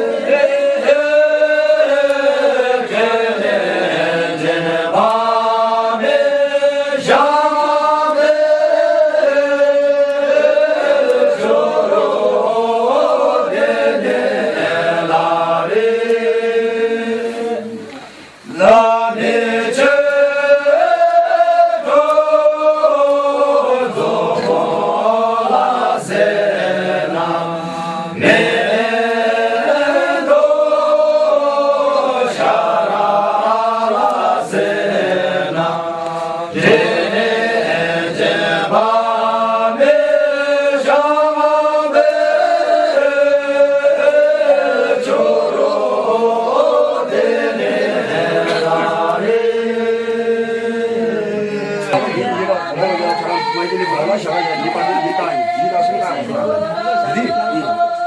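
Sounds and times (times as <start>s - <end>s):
men chanting in unison: 0.0s - 58.0s.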